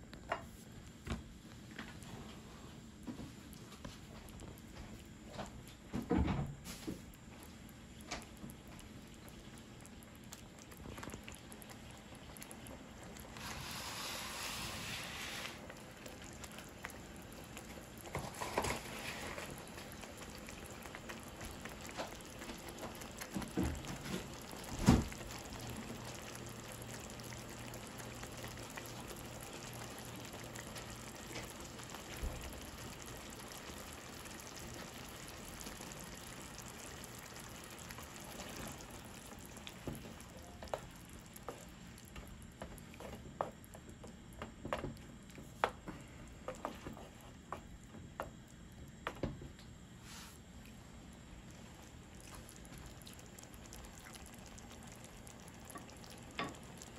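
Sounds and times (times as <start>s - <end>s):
salsa bubbling in a skillet: 0.0s - 56.9s.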